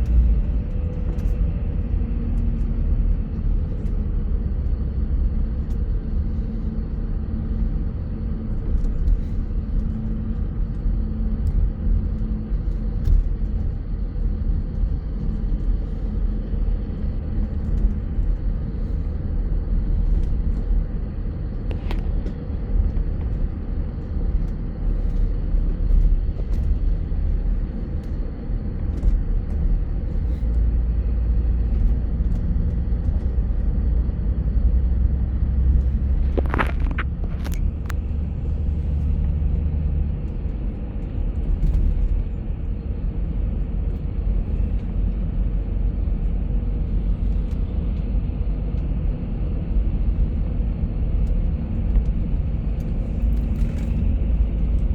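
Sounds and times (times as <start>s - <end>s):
bus engine and road rumble: 0.0s - 54.9s.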